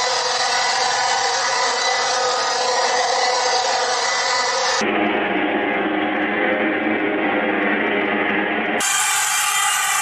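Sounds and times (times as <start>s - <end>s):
harsh electronic noise music: 0.0s - 10.0s.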